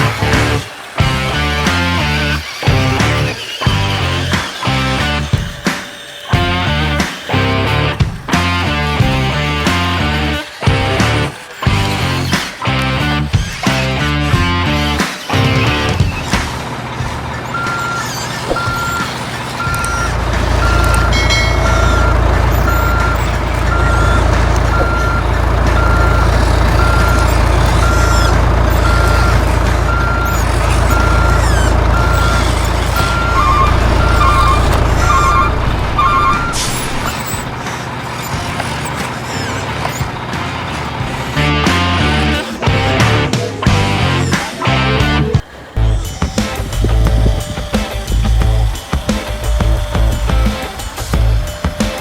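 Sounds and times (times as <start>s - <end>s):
diesel engine rumble: 0.0s - 52.0s
truck reversing beeper: 0.0s - 52.0s.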